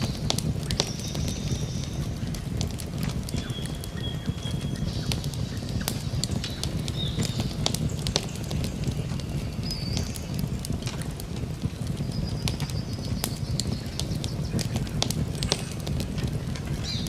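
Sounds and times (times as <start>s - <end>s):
birds whistling: 0.0s - 17.0s
campfire crackling and popping: 0.0s - 17.0s
low rumble: 0.0s - 17.0s.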